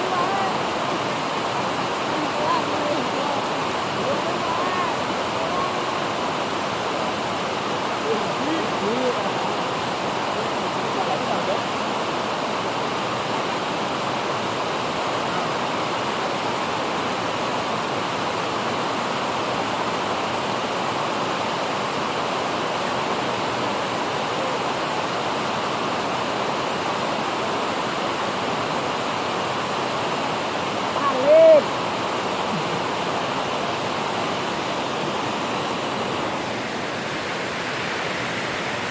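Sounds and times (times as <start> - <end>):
water rushing through sluice gate: 0.0 - 38.9.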